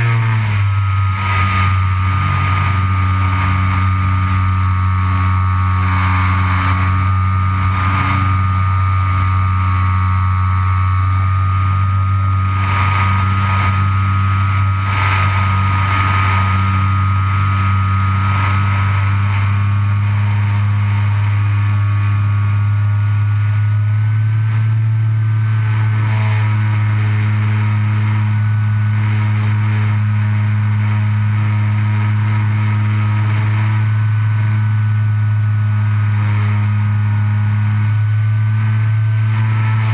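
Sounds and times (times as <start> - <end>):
electric motor and propeller drone: 0.0 - 39.9.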